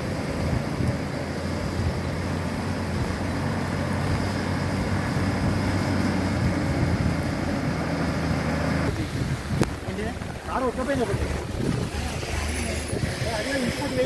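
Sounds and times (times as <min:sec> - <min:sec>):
diesel truck engine running: 0:00.0 - 0:14.0
water washing around wheels: 0:00.0 - 0:14.0.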